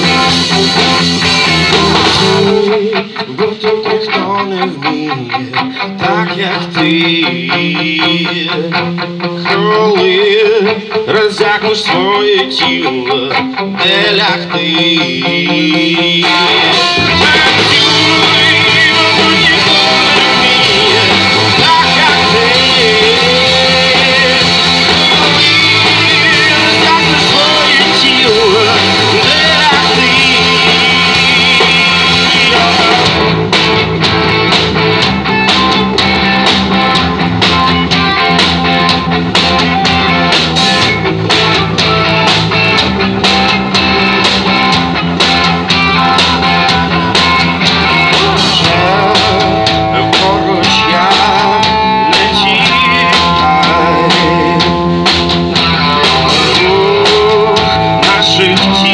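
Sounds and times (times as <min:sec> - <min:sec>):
drum kit with cymbal hits: 0:00.0 - 0:04.0, 0:14.8 - 0:58.9
person singing: 0:00.0 - 0:33.8, 0:45.4 - 0:58.9
electric guitars: 0:00.0 - 0:58.9.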